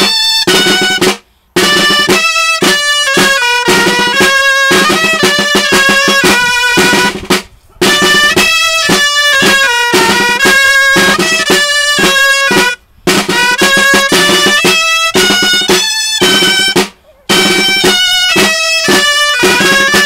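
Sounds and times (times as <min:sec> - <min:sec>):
double-reed pipes playing melody: 0:00.0 - 0:20.0
drums beating rhythm: 0:00.0 - 0:20.0.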